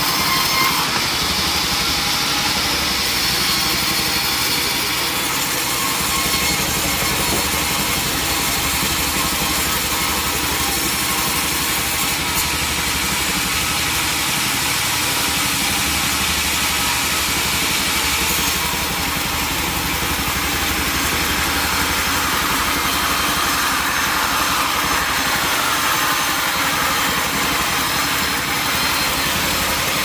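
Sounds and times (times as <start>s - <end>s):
sawmill machinery droning: 0.0s - 30.0s.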